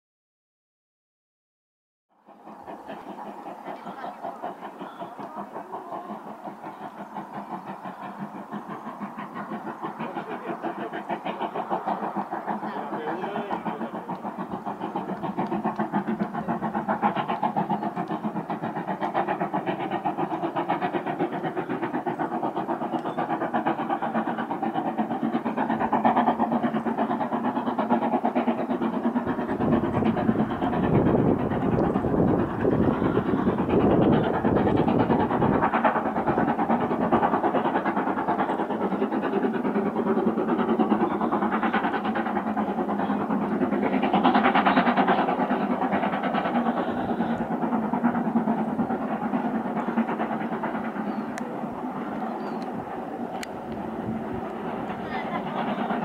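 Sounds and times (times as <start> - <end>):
steam train chuffing: 2.1 - 56.0.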